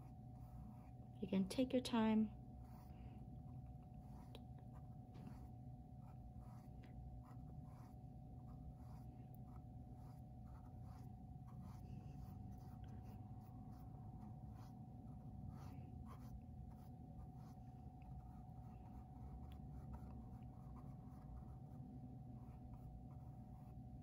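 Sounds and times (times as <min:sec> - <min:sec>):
faint hum: 0:00.0 - 0:24.0
paintbrush scratching on canvas: 0:00.0 - 0:24.0.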